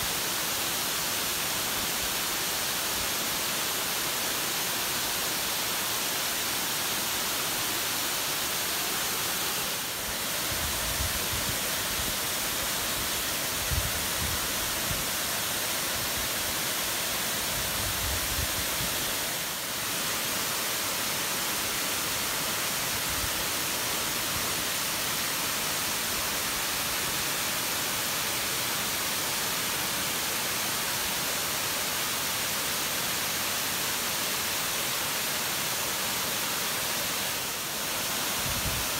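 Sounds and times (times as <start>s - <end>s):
water rushing over spillway: 0.0s - 38.9s.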